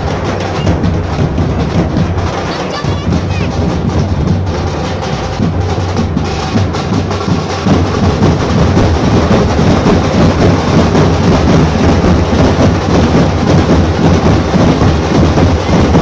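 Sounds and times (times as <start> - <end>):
barrel drums beating fast: 0.0 - 16.0.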